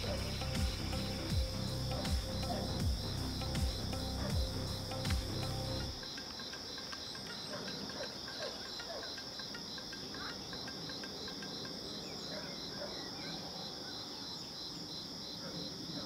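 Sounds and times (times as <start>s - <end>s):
insects high trill: 0.0s - 15.0s
pulsing insect trill: 0.0s - 16.0s.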